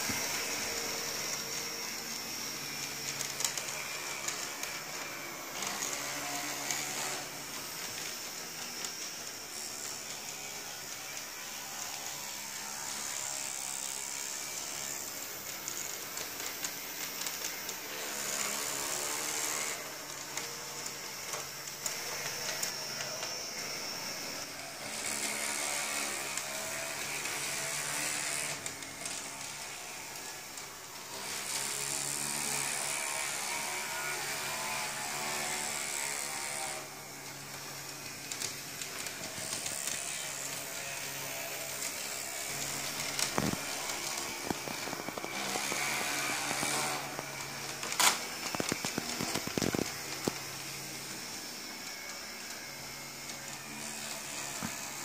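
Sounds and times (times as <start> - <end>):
model tram electric motor whining: 0.0 - 55.0.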